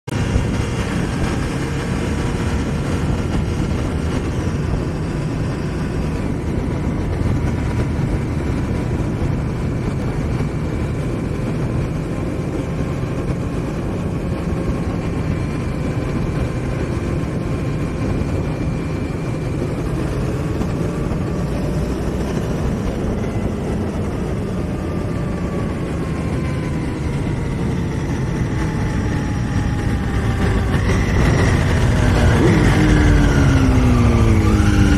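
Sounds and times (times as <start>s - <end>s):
motorcycle engine running: 0.0s - 34.9s
wind noise on microphone: 0.1s - 34.9s.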